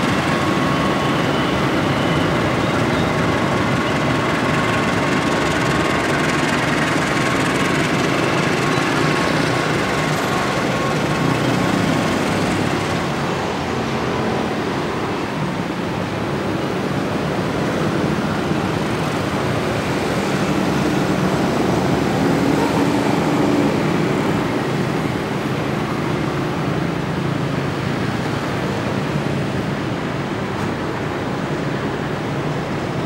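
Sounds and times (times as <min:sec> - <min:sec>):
wheels on rails: 0:00.0 - 0:29.5
locomotive engine drone: 0:00.0 - 0:33.0.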